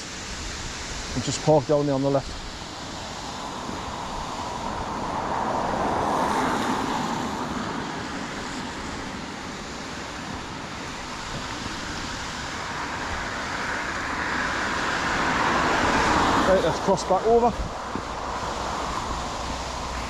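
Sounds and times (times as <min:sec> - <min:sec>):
cars passing: 0:01.2 - 0:20.0.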